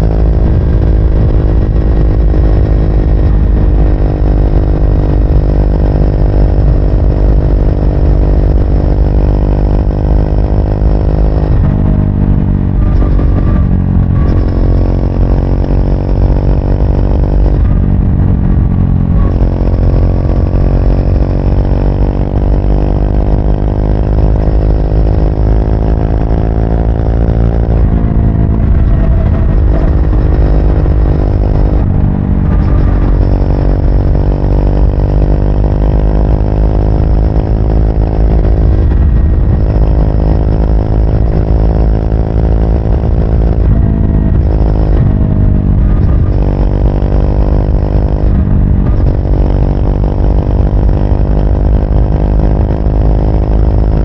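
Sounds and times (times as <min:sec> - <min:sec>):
motorcycle engine accelerating: 0:00.0 - 0:54.0
steady low rumble: 0:00.0 - 0:54.0.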